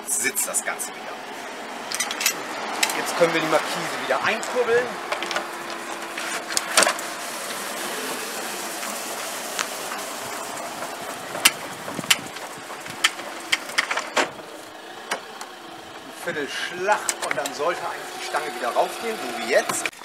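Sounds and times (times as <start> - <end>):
awning crank whirring: 0.7 - 20.0.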